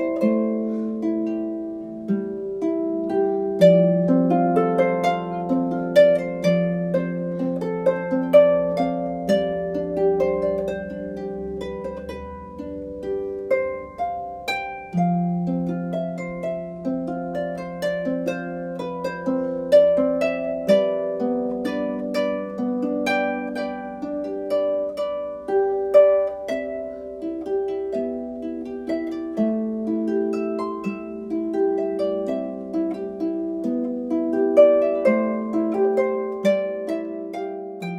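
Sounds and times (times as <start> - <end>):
harp music: 0.0 - 37.9.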